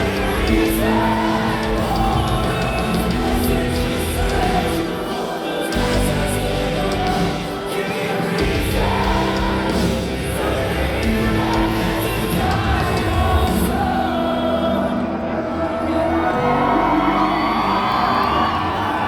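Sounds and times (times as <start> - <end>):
lead vocal singing long notes: 0.0 - 19.0
live rock band playing: 0.0 - 19.0.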